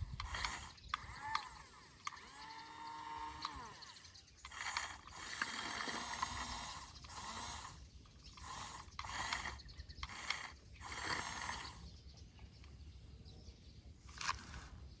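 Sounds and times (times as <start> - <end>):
toy motor and gearbox whirring: 0.0 - 12.0, 14.0 - 14.8.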